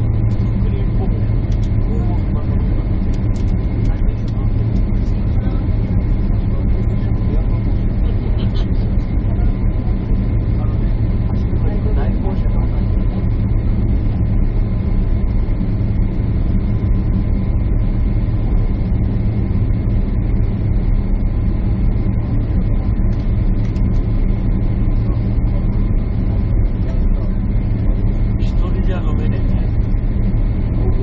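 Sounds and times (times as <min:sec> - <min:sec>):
jet engines and airflow drone: 0:00.0 - 0:31.0.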